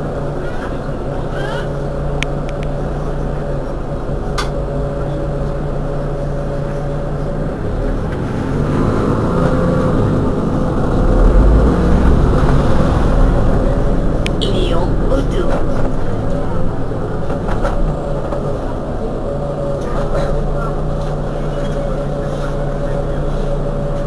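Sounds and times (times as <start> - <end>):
bus engine idling: 0.0 - 24.0.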